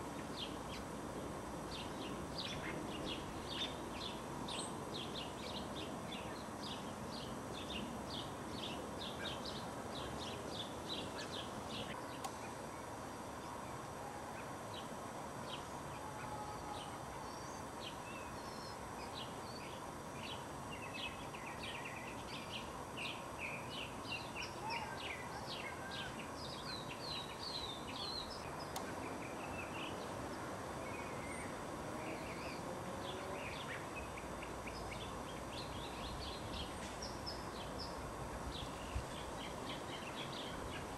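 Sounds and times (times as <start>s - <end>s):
steady background noise: 0.0s - 40.9s.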